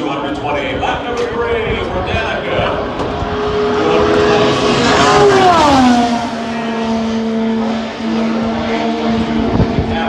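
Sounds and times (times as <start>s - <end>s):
race car engine passing by: 0.0s - 10.0s.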